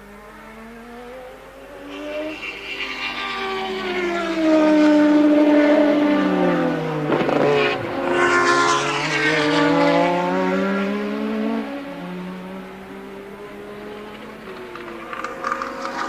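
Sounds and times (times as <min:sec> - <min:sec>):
race car engines at high revs: 0:00.0 - 0:16.0.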